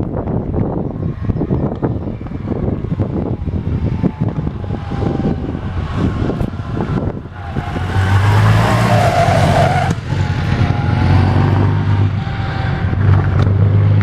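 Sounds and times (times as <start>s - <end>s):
racing car engine running hard: 1.6s - 14.0s.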